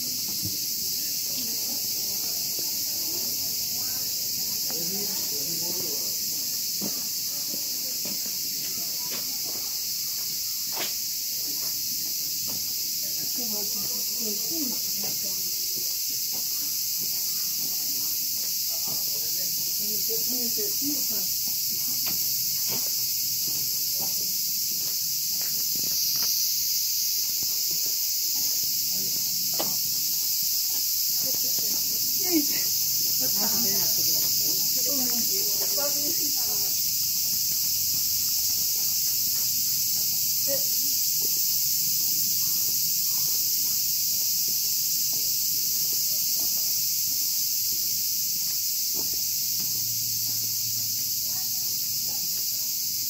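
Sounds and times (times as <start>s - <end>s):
faint footsteps on path: 0.0s - 53.0s
insects chorus: 0.0s - 53.0s.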